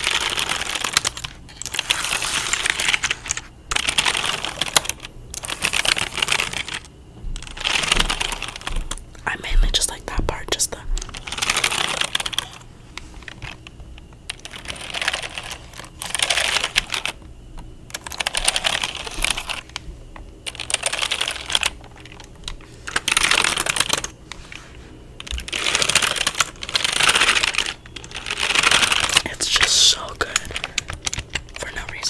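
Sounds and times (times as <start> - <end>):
keyboard typing rapidly: 0.0 - 12.6, 14.3 - 17.2, 17.9 - 19.8, 20.4 - 24.2, 25.2 - 32.0.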